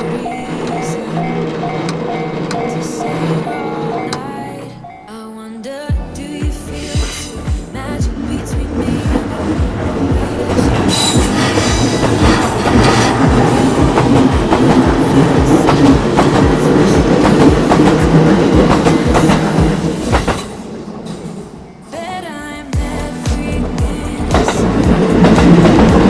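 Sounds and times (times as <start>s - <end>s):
train rumble: 0.0s - 5.2s, 5.9s - 26.0s.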